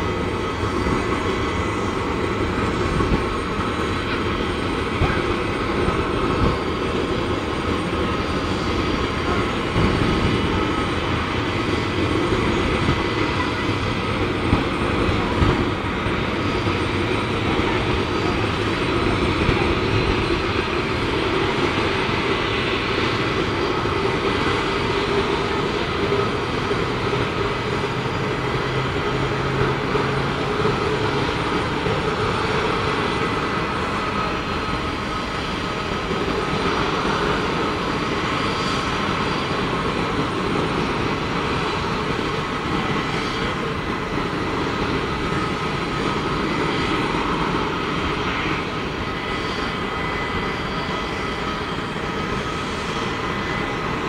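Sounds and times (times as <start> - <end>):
jet engines hissing with high whine: 0.0 - 54.0.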